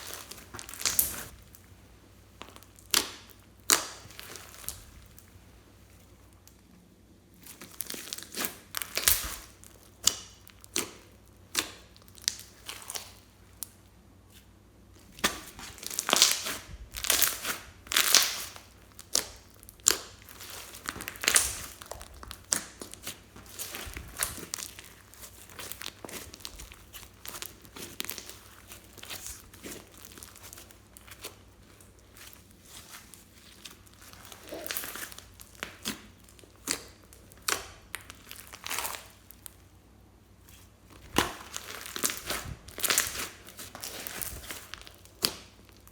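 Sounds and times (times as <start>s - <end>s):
slime squished by hand: 0.0s - 1.6s, 2.4s - 5.3s, 7.4s - 14.4s, 15.0s - 39.7s, 40.4s - 45.9s.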